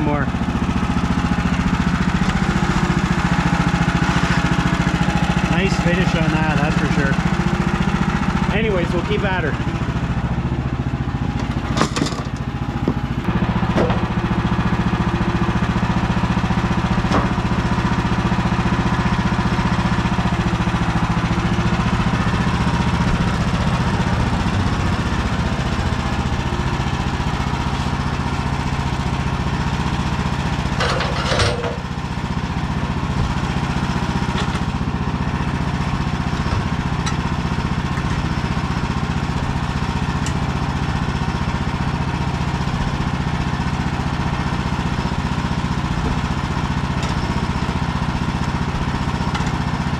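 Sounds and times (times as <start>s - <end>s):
gas engine running: 0.0s - 49.9s.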